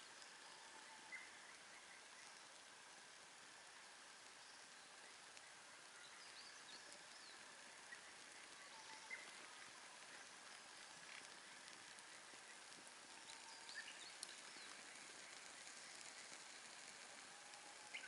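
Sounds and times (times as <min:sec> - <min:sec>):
faint bird chirps: 0:00.0 - 0:02.6, 0:04.3 - 0:18.0
steady hiss: 0:00.0 - 0:18.0.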